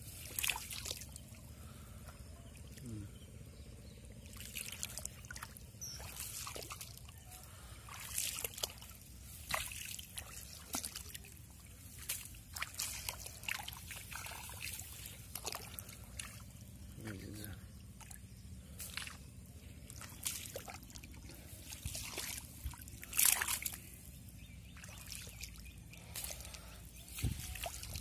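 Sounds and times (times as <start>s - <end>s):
water trickling and sloshing: 0.0s - 28.0s
sharp splashes and clicks: 0.1s - 1.3s, 4.2s - 7.2s, 7.9s - 16.6s, 17.9s - 28.0s.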